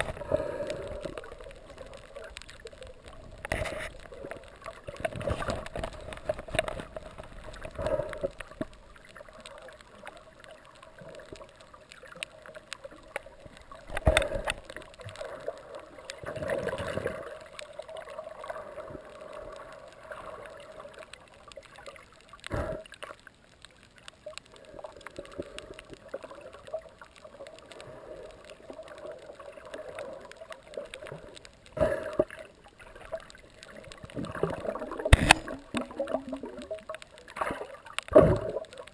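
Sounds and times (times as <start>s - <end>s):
underwater water gurgling: 0.0s - 38.9s.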